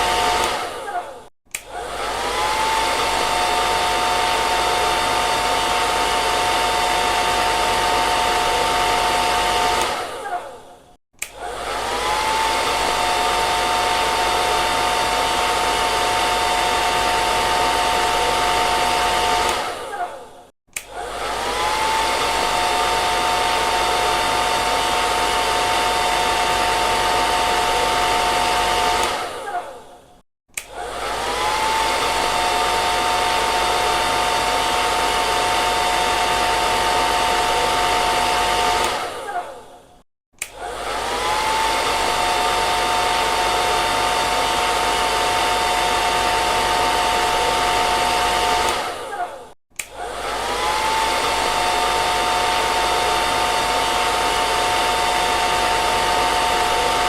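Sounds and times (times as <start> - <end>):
hair dryer running: 0.0 - 39.8, 40.4 - 57.0.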